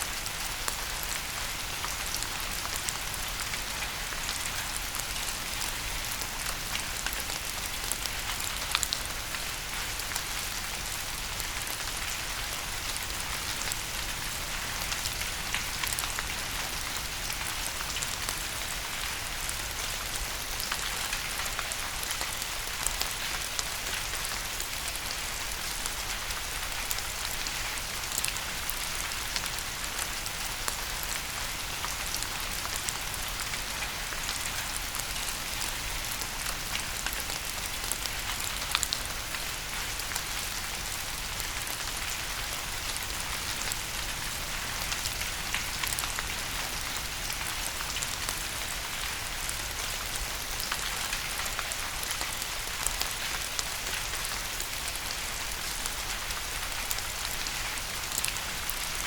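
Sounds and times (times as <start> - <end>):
steady rain pattering: 0.0 - 59.0.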